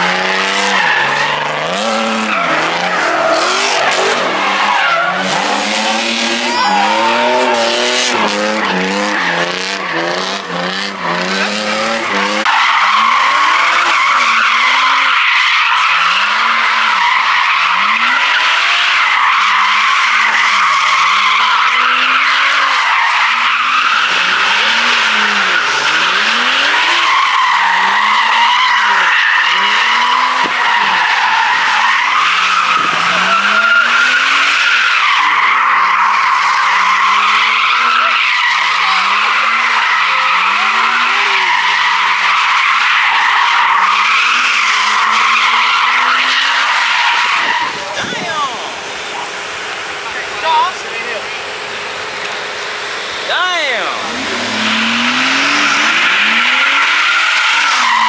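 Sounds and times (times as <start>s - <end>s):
car engine revving: 0.0s - 58.0s
car tyres squealing: 0.0s - 58.0s.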